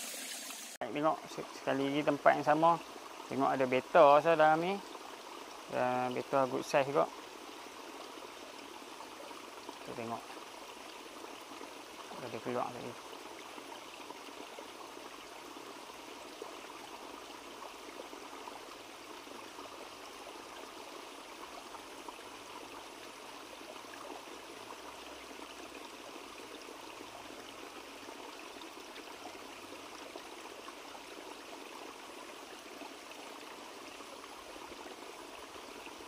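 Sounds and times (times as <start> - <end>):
stream flowing water: 0.0 - 36.0.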